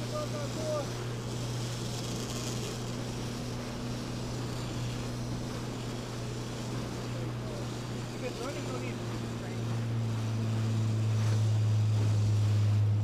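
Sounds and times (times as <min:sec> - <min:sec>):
boat engine humming: 0:00.0 - 0:13.0
water rushing in wake: 0:00.0 - 0:13.0.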